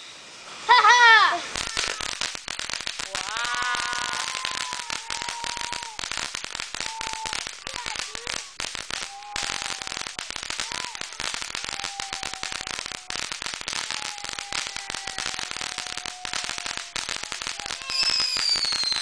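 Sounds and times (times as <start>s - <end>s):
firework crackling and hissing: 0.0s - 19.0s.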